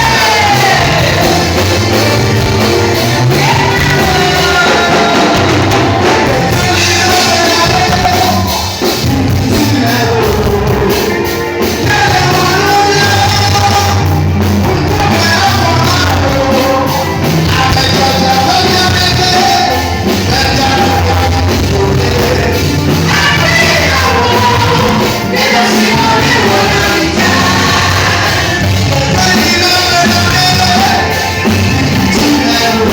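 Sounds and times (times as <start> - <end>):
band with bass and drums: 0.0 - 32.9
voices singing: 0.0 - 32.9.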